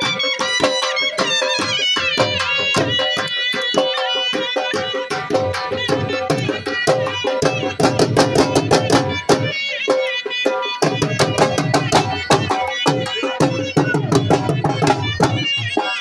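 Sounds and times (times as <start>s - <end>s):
dhol drums beaten with sticks: 0.0s - 16.0s
wind instrument bending melody: 0.0s - 16.0s.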